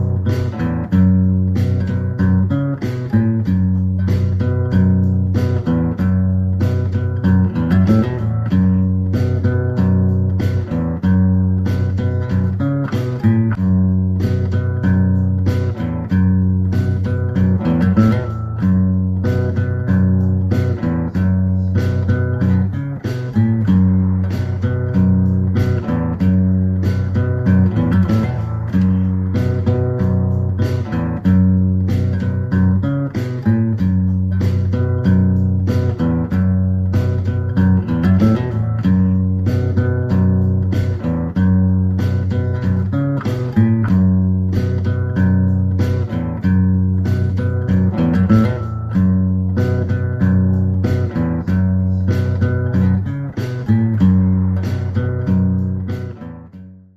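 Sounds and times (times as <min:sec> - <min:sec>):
plucked guitar: 0:00.0 - 0:56.9
regular beat: 0:00.0 - 0:56.9
steady bass line: 0:00.0 - 0:56.9.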